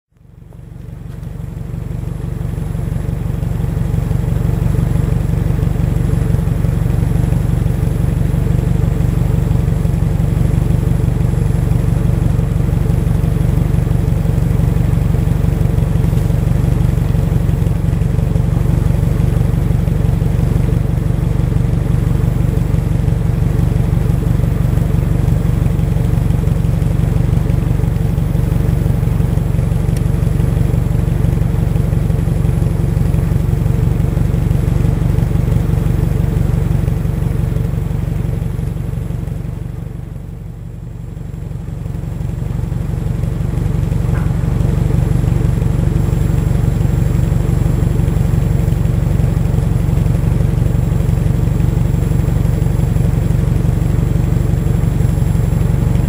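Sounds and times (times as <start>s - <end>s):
car engine idling: 0.2s - 56.0s.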